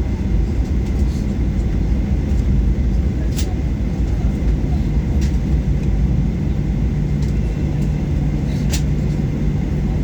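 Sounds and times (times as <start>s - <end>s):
aircraft rumble on runway: 0.0s - 10.0s.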